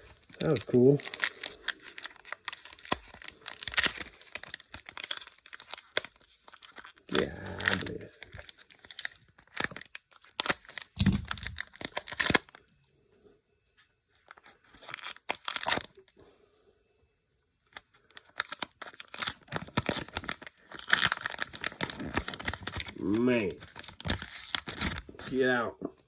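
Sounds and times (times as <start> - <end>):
foil wrapper tearing and crinkling: 0.0 - 12.7, 14.2 - 16.1, 17.7 - 25.4.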